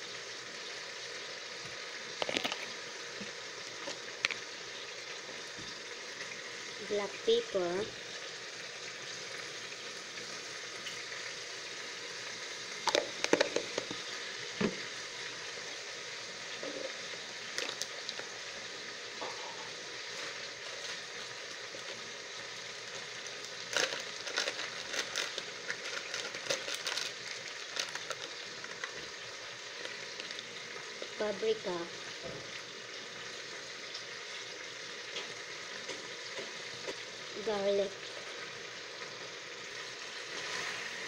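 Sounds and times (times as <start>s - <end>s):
chicken sizzling in a pan: 0.0s - 41.0s
crackles and pops of frying: 0.0s - 41.0s.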